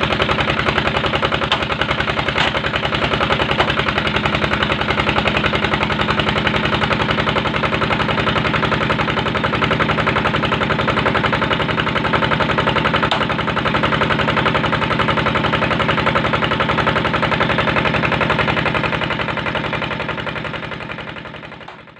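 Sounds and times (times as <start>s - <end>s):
brick-making machine rattling: 0.0s - 21.9s.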